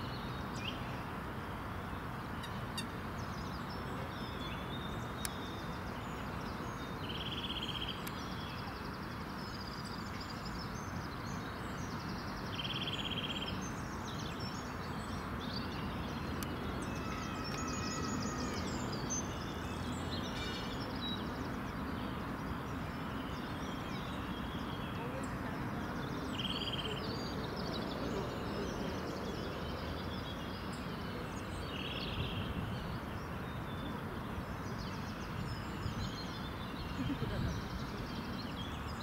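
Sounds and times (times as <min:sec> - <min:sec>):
outdoor background noise: 0:00.0 - 0:39.0
small birds calling: 0:02.3 - 0:39.0.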